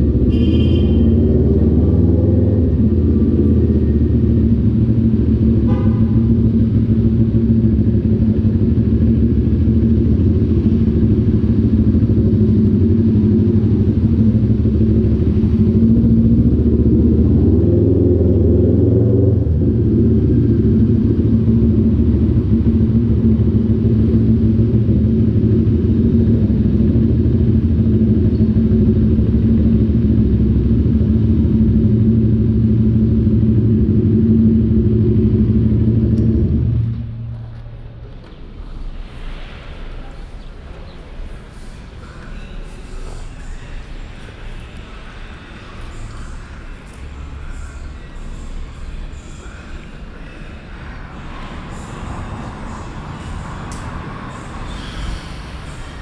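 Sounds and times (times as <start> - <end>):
motorcycle engine running: 0.0 - 39.2, 40.8 - 56.0.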